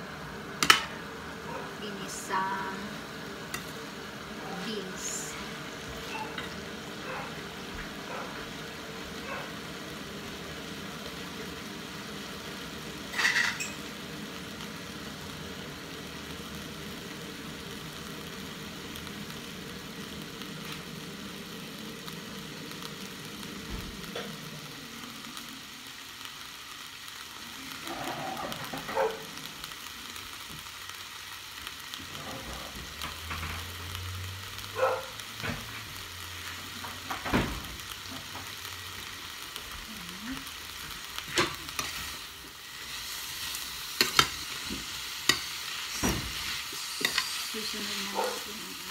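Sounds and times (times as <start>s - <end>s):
food sizzling in a frying pan: 0.0s - 48.9s.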